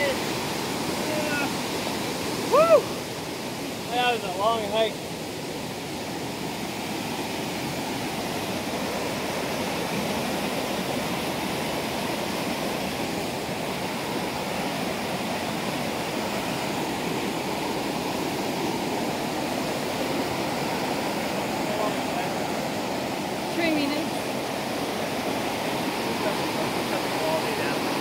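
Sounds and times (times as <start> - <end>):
stream rushing down a cascade: 0.0 - 28.0.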